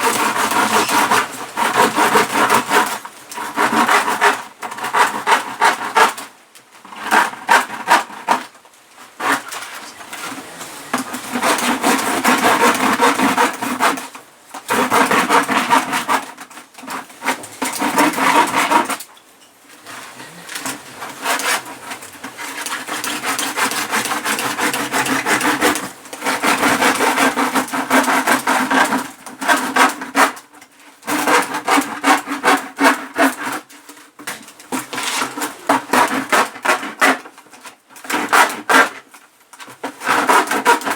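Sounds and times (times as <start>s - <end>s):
knife sawing through plastic: 0.0s - 19.1s, 19.7s - 40.9s.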